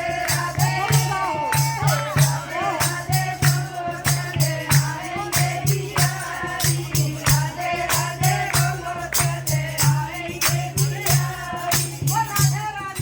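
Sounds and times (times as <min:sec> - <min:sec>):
group singing together: 0:00.0 - 0:13.0
hand drum beat: 0:00.0 - 0:13.0
jingling hand percussion: 0:00.0 - 0:13.0.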